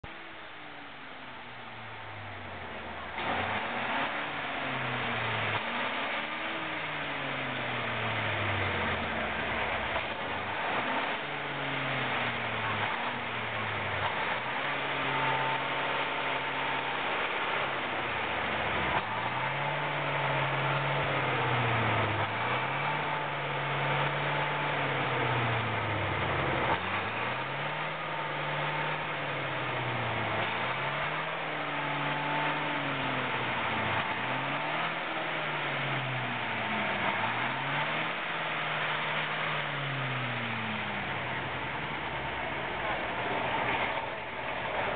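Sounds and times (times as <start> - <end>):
diesel truck engine revving: 0.0 - 44.9.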